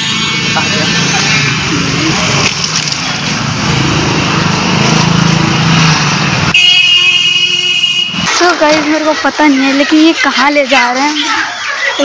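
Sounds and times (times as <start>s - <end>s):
street traffic engines: 0.0s - 12.0s.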